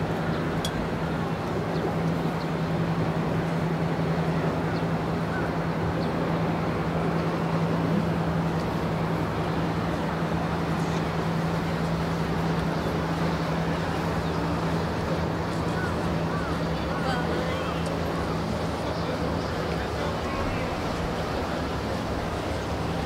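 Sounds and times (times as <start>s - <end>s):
boat engine droning: 0.0s - 23.0s
water noise: 0.0s - 23.0s.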